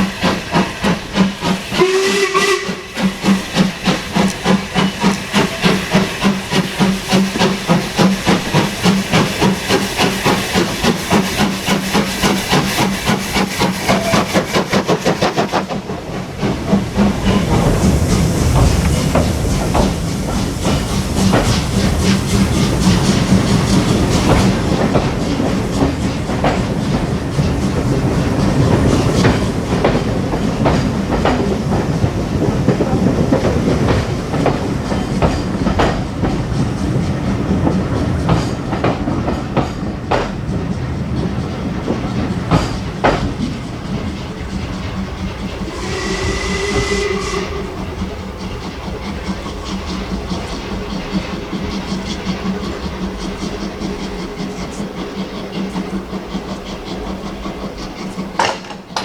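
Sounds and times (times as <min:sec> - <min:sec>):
steam locomotive exhaust beats: 0:00.0 - 0:59.0
train coaches rumbling past: 0:00.0 - 0:59.0.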